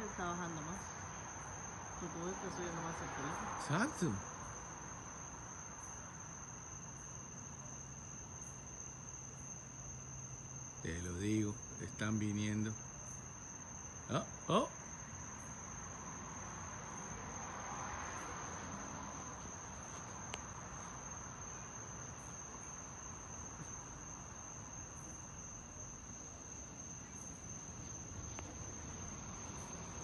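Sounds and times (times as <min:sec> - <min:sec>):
faint background hiss: 0:00.0 - 0:30.0
night insects trilling: 0:00.0 - 0:30.0.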